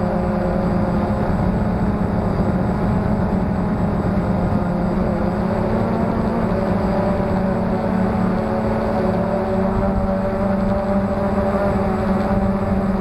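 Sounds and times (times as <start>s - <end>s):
drone motors humming: 0.0s - 13.0s.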